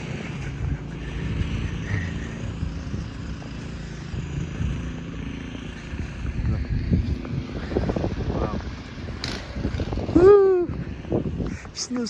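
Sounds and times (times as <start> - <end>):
faint engine tones: 0.0 - 12.0
passing traffic: 0.0 - 12.0
wind rumble: 0.0 - 12.0.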